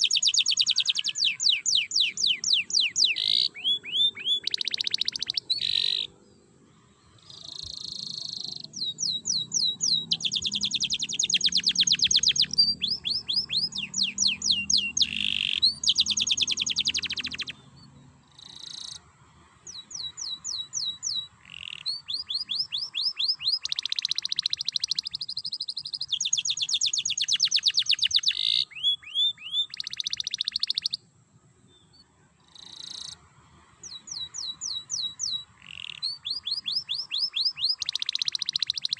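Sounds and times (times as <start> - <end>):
canary singing trills: 0.0 - 31.1, 31.8 - 33.2, 33.8 - 38.9.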